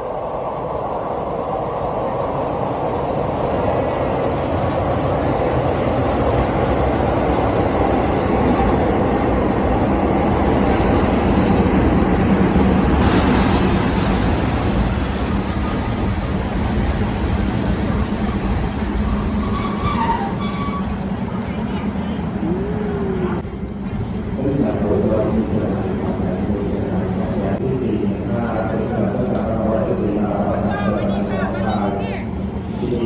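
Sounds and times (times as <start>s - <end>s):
train engine and wheels rumbling: 0.0s - 33.0s.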